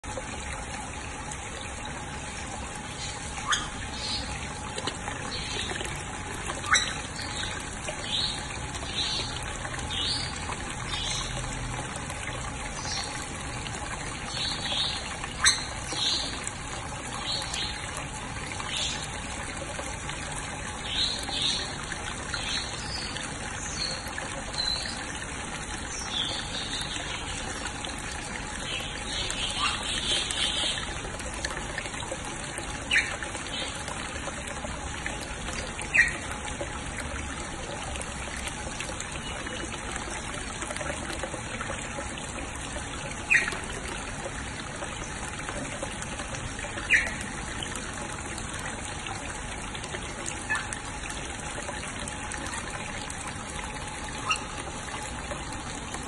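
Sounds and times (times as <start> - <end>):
water trickling into pool: 0.0 - 56.0.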